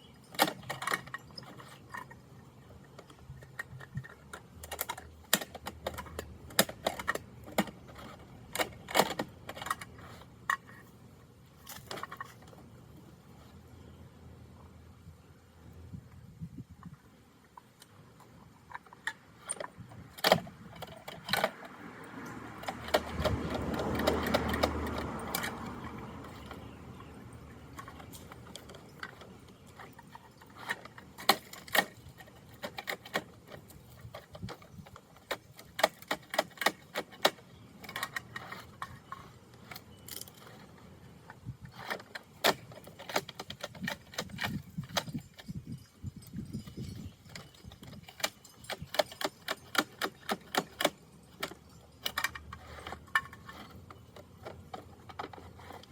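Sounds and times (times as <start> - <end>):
plastic toy truck rattling: 0.0 - 13.6, 18.2 - 55.9.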